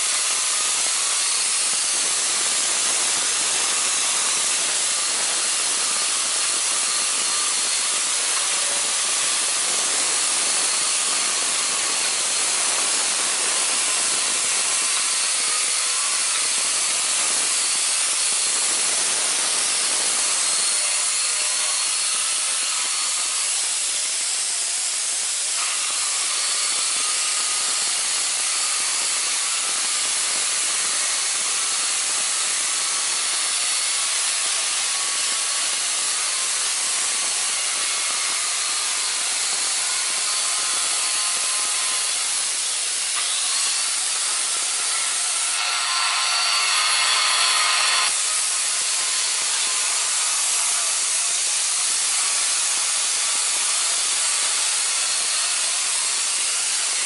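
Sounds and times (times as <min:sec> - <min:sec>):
die grinder whining against steel: 0:00.0 - 0:57.0.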